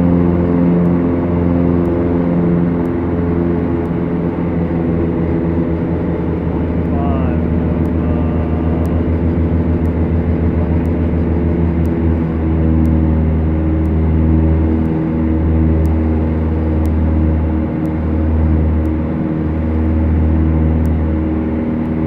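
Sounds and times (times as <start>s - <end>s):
propeller aircraft engines droning: 0.0s - 22.0s.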